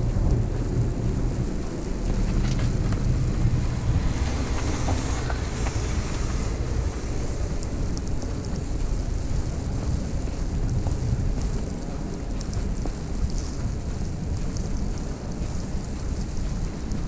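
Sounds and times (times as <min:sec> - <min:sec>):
wind gusting over microphone: 0:00.0 - 0:17.0.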